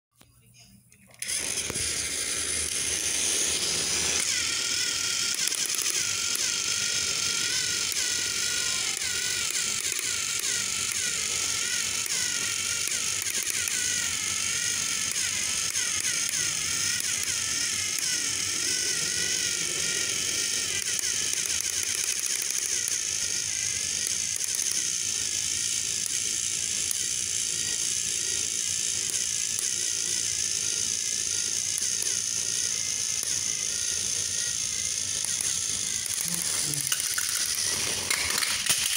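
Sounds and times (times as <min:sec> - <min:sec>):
toy train motor whirring: 0:01.1 - 0:38.9.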